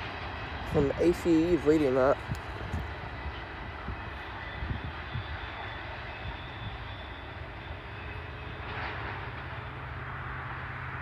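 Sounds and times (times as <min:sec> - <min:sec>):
distant freight train rumbling: 0:00.0 - 0:11.0.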